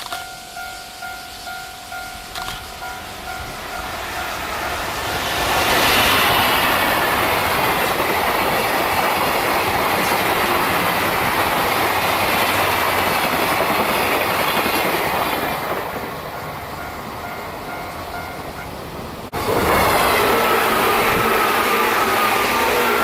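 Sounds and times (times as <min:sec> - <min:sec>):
train passing close by: 0:00.0 - 0:23.0.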